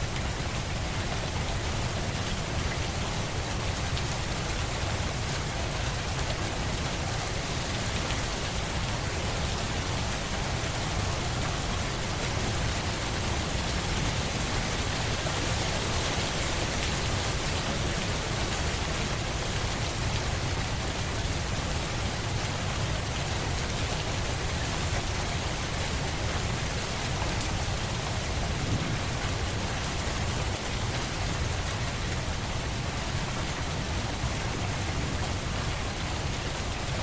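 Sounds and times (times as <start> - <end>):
rain pattering on surfaces: 0.0 - 37.0.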